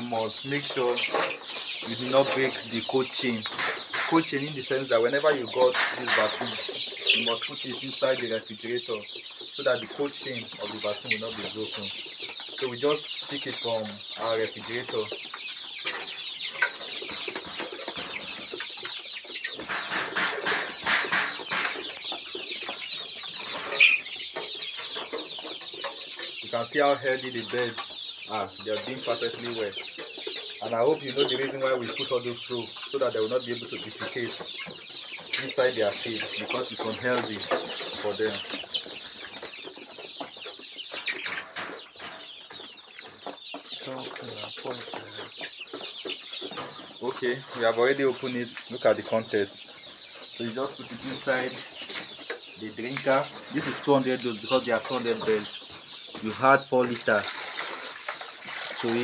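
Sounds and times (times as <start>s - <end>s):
chicks peeping and clucking: 0.0s - 59.0s.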